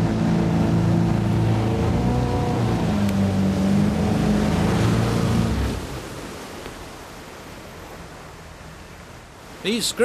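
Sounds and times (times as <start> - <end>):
motorboat engine drone: 0.0 - 9.6
water rushing along hull: 0.0 - 10.0.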